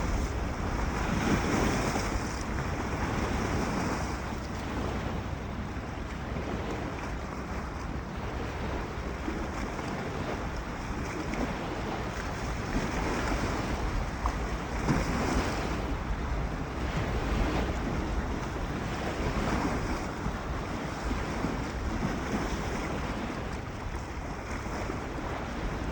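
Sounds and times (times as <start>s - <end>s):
lake waves breaking ashore: 0.0s - 25.9s
wind buffeting microphone: 0.0s - 25.9s.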